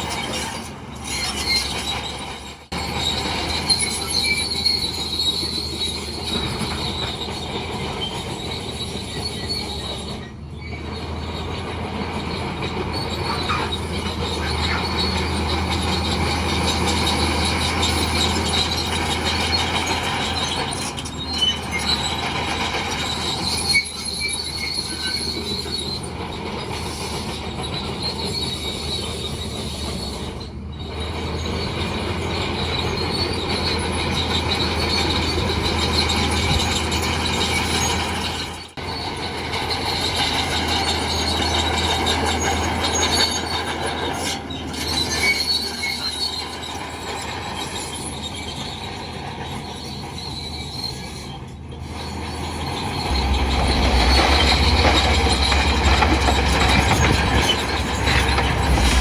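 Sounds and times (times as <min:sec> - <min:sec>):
diesel engine running: 0:00.0 - 0:59.0
metallic track squealing: 0:00.0 - 0:59.0.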